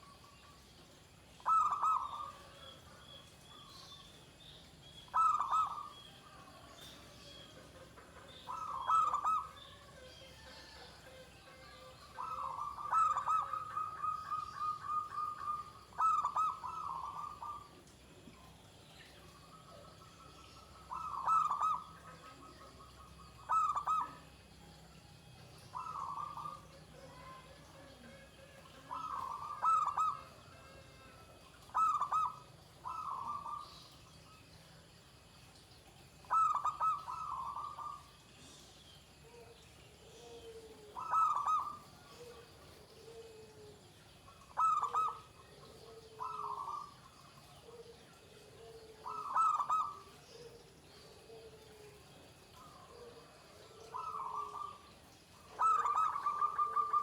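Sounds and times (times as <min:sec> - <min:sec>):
dove cooing: 0:00.0 - 0:04.1, 0:05.0 - 0:24.6, 0:25.4 - 0:34.4, 0:35.5 - 0:57.0.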